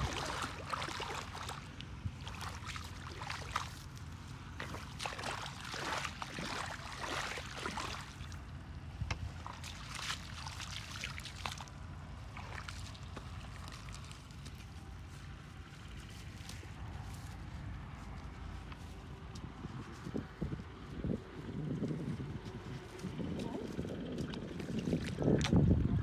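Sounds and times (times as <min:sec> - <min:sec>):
feet splashing in muddy water: 0:00.0 - 0:19.6, 0:21.8 - 0:25.7.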